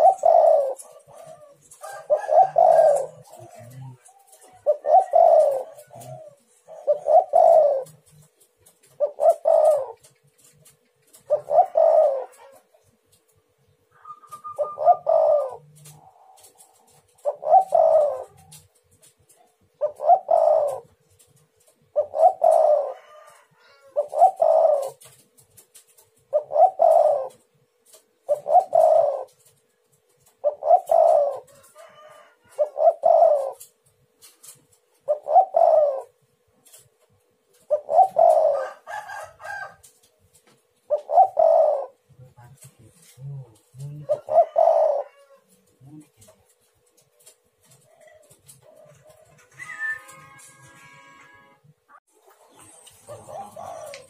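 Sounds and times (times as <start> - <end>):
dove cooing: 0.0 - 51.4, 52.2 - 54.0.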